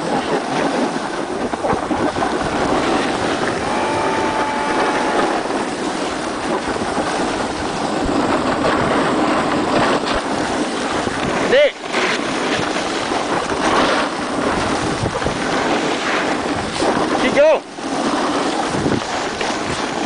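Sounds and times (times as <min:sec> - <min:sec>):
skis sliding over snow: 0:00.0 - 0:20.0
wind buffeting microphone: 0:00.0 - 0:20.0.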